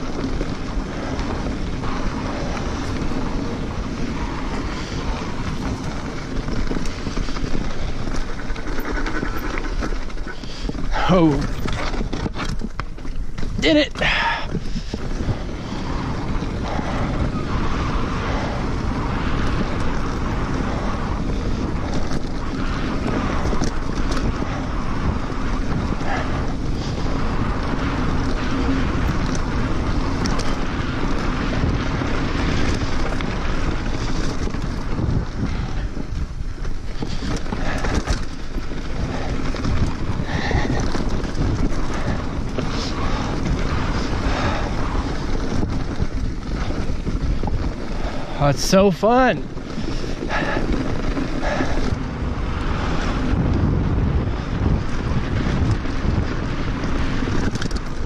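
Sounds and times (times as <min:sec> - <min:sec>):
bike clicks and clatters: 0:00.0 - 0:58.0
tyres running over dirt: 0:00.0 - 0:58.0
wind buffeting microphone: 0:00.0 - 0:58.0.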